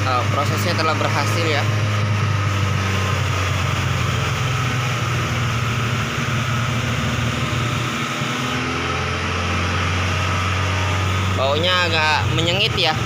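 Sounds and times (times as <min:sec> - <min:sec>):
car engine idling: 0:00.0 - 0:08.7, 0:09.4 - 0:13.0.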